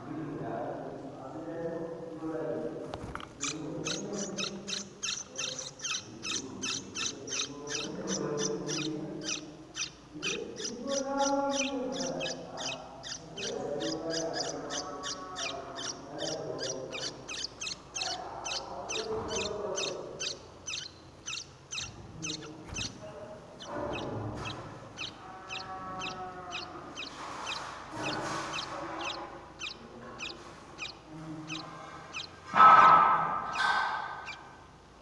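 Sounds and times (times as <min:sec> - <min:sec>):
small birds chirping: 0:01.2 - 0:35.0
lower bird calls: 0:03.2 - 0:34.6.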